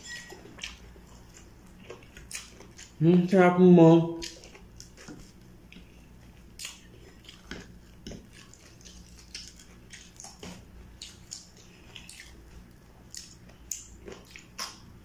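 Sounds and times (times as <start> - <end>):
chewing crunchy food: 0.1 - 3.3, 4.1 - 15.0.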